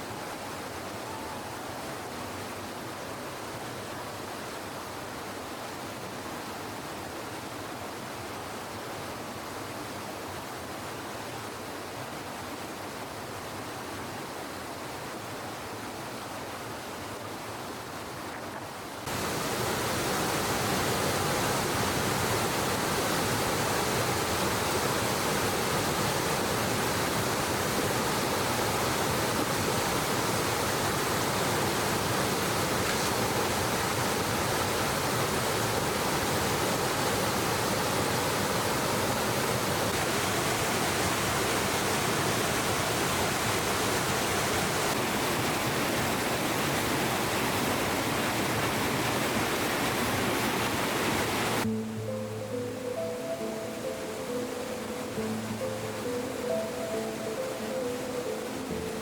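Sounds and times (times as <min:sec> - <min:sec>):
flowing water rushing: 0:00.0 - 0:59.0.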